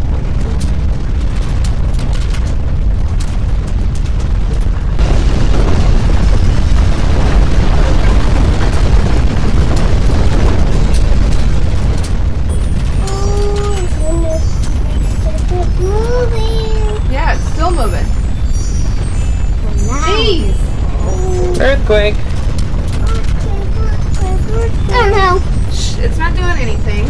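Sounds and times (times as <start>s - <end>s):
earthquake rumble with crackles: 0.0s - 27.0s.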